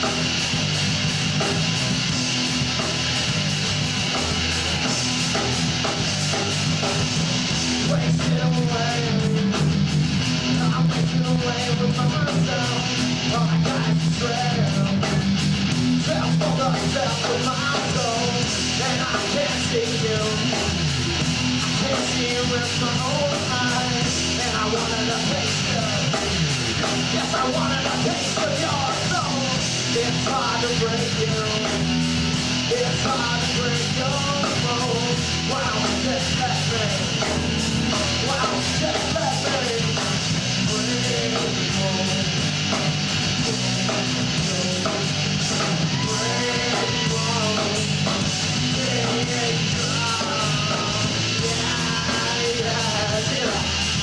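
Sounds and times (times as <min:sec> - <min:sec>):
drums: 0:00.0 - 0:54.0
electric guitars: 0:00.0 - 0:54.0.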